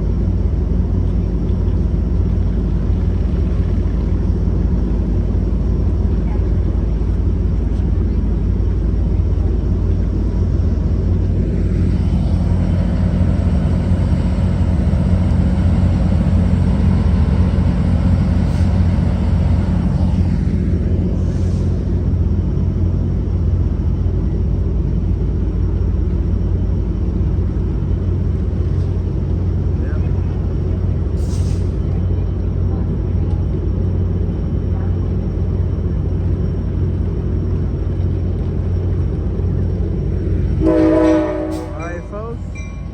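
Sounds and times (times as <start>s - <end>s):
diesel locomotive idling: 0.0s - 42.9s.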